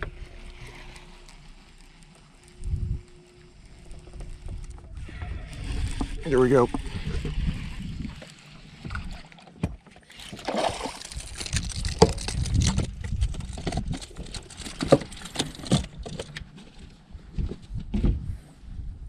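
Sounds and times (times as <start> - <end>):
low rumble of wind: 0.0 - 9.8, 10.4 - 19.0
water: 0.0 - 16.8.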